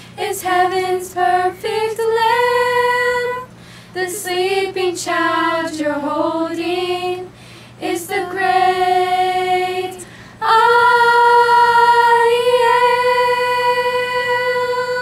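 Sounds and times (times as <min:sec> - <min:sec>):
girls singing a cappella: 0:00.0 - 0:15.0.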